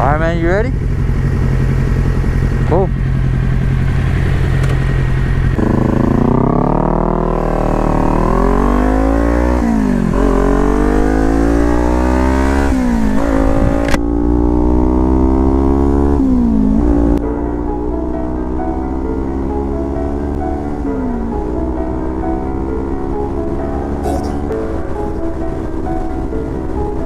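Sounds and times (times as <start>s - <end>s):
motorcycle engine accelerating hard: 0.0s - 27.0s.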